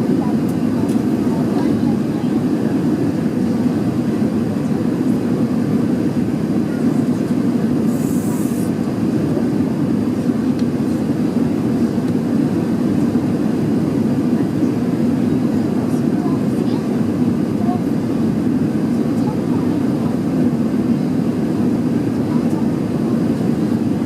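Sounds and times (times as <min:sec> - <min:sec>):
jet engine cabin noise: 0:00.0 - 0:24.0.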